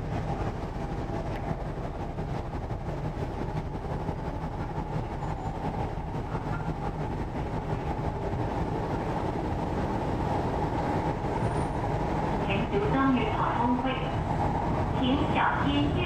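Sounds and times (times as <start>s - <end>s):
train running inside carriage: 0.0s - 16.0s.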